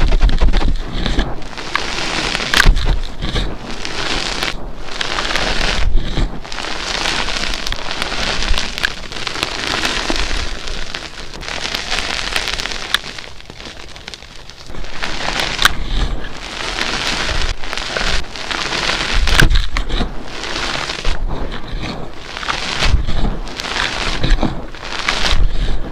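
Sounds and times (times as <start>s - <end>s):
chalk blocks being crushed: 0.0s - 25.9s.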